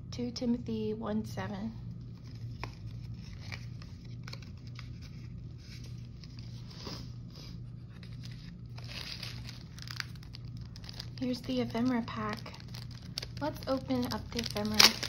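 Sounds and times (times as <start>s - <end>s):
steady low hum: 0.0s - 15.0s
paper rustling and crinkling: 2.0s - 15.0s.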